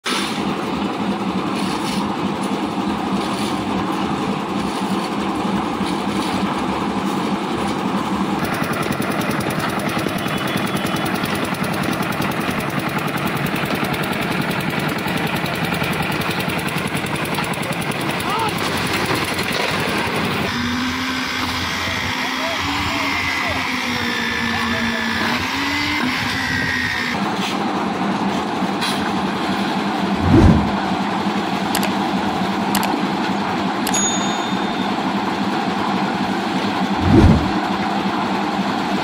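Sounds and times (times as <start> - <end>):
concrete mixer engine running: 0.1 - 39.0.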